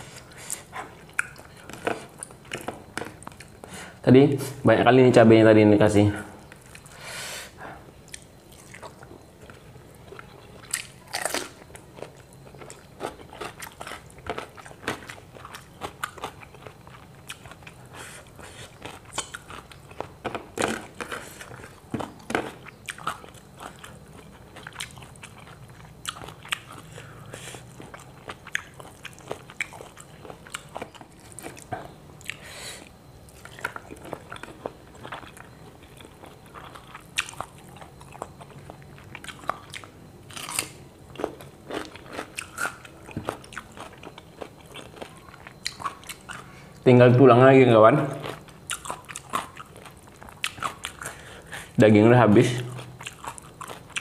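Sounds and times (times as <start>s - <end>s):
man chewing and crunching food: 0.0s - 4.1s, 6.4s - 54.0s.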